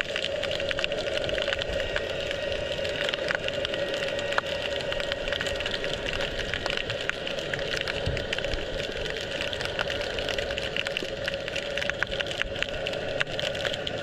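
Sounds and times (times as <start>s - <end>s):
underwater hum: 0.0s - 14.0s.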